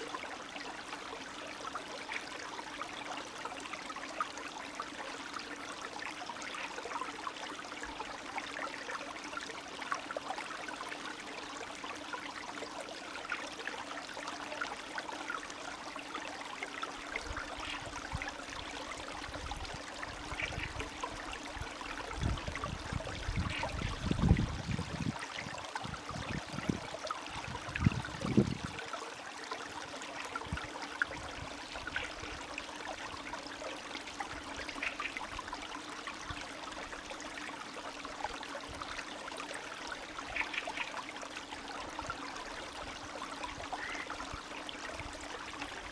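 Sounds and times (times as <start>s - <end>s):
stream trickling and gurgling: 0.0s - 45.9s.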